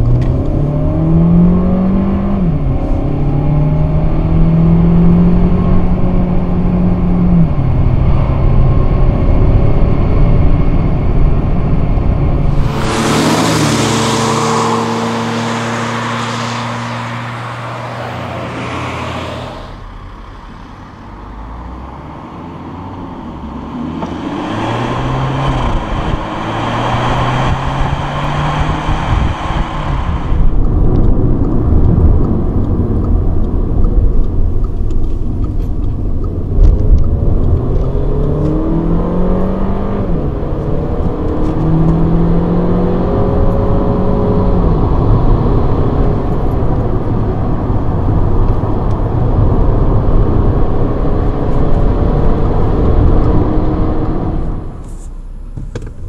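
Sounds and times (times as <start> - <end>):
car engine accelerating: 0.0 - 56.0
road and wind hiss: 0.0 - 56.0.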